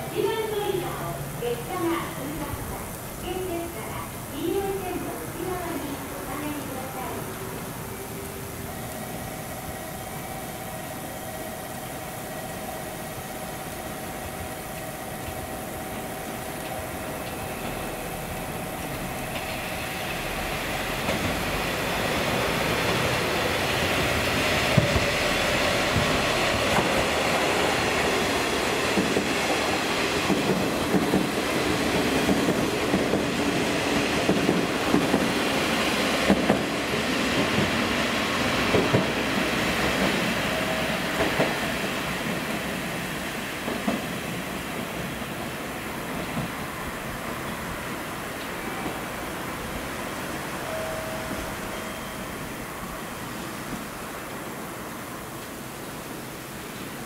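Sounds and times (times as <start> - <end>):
diesel railcar engine hum: 0.0 - 57.0.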